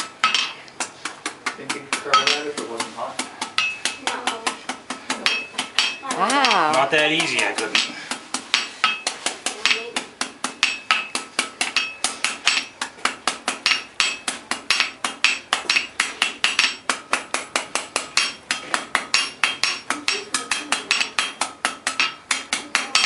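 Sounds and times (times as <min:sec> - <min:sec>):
hammer striking iron on anvil: 0:00.0 - 0:23.0.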